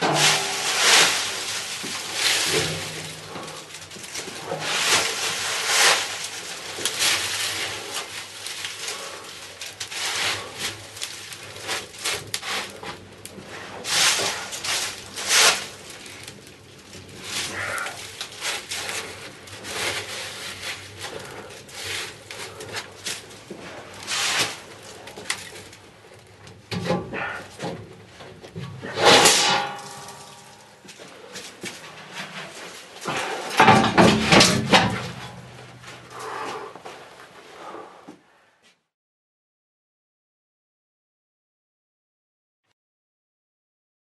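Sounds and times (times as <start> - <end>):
fire crackling and hissing: 0.0 - 37.8.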